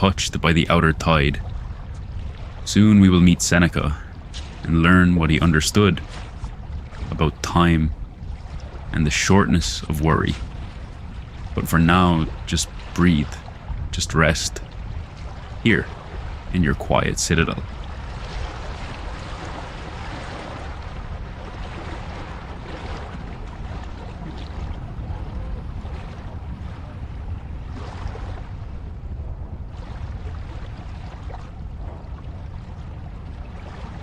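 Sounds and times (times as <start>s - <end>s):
ocean waves on shore: 0.0s - 34.0s.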